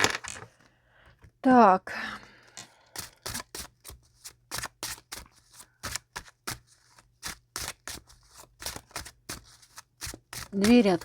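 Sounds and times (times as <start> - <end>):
cards being shuffled: 0.0 - 0.5, 2.6 - 11.0.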